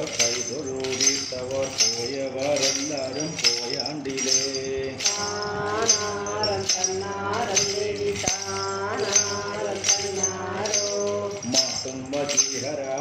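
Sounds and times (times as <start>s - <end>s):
hand drums beaten with sticks: 0.0s - 13.0s
metal bells jingling: 0.0s - 13.0s
voices singing a chant: 0.0s - 13.0s.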